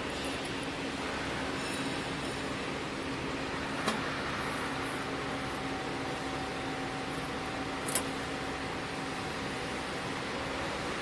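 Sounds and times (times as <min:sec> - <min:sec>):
machinery humming and whirring: 0:00.0 - 0:11.0.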